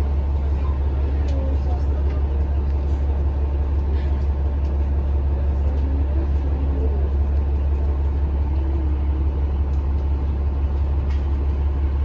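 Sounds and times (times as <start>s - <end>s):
bus rumbling: 0.0s - 12.0s.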